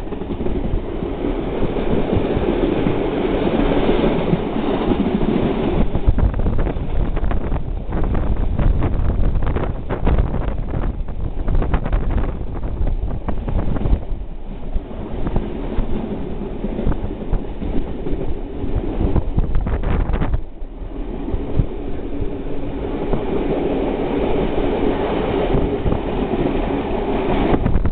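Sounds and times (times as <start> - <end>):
train wheels rumbling on track: 0.0 - 27.9.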